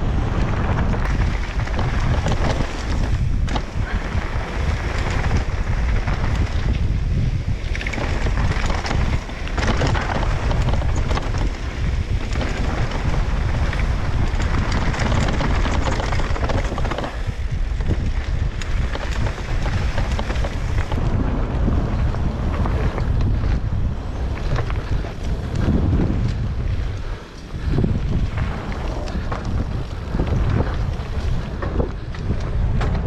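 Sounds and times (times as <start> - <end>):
tyres rolling over dirt and rock: 0.0 - 33.0
wind buffeting microphone: 0.0 - 33.0.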